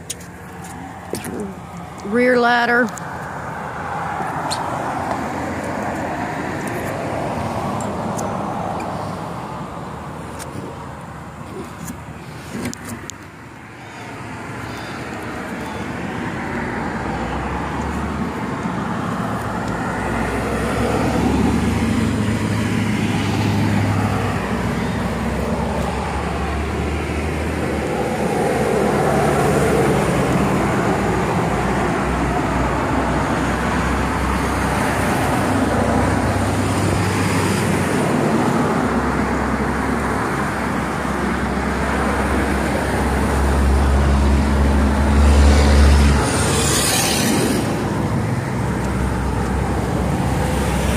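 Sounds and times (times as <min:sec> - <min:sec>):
road traffic rumble: 0:00.0 - 0:50.9.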